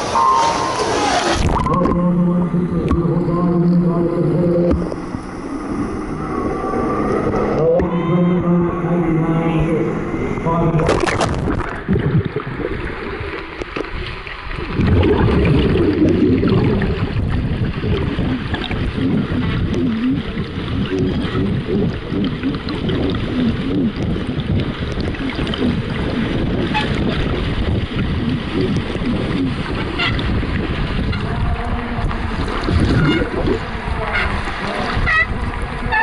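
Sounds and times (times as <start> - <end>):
underwater churning bubbling water: 0.0 - 36.0.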